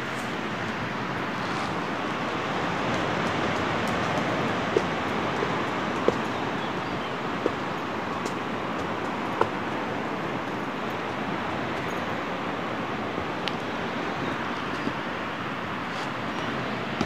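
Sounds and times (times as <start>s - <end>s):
distant surf: 0.0s - 17.0s
wind: 0.0s - 17.0s.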